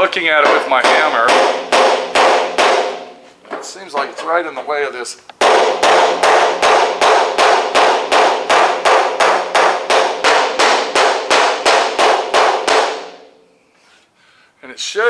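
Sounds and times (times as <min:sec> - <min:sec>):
hammer striking steel panel: 0:00.0 - 0:04.8, 0:05.4 - 0:13.4
sheet metal ringing: 0:00.0 - 0:13.6.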